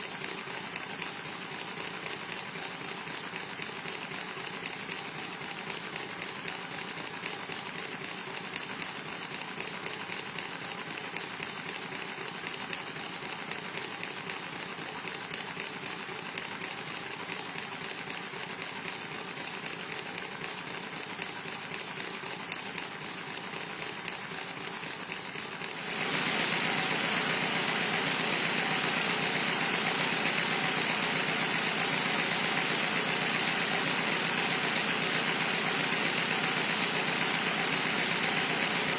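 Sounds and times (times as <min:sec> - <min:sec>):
machine running with rattle: 0:00.0 - 0:38.9.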